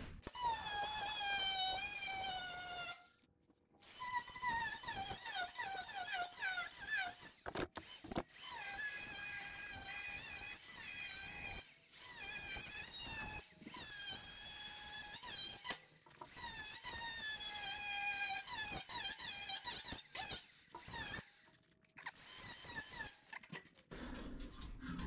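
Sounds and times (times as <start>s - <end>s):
angle grinder cutting sheet steel: 0.2s - 3.2s, 3.8s - 23.8s.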